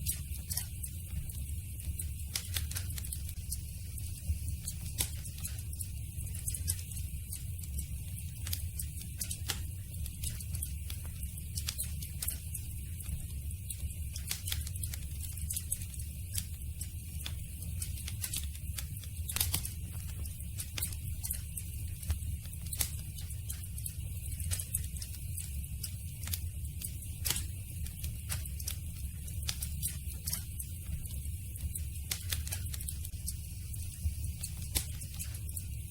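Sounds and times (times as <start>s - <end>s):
wood crackling and popping: 0.0s - 35.8s.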